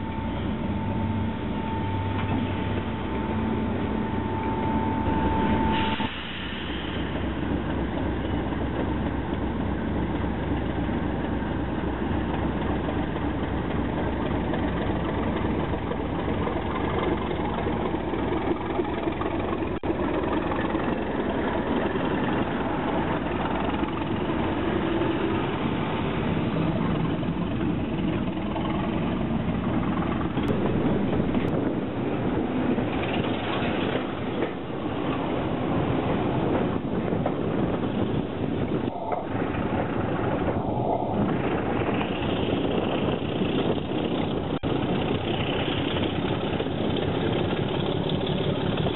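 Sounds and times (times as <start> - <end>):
diesel locomotive idling: 0.0 - 48.9
moving train running noise: 0.0 - 48.9.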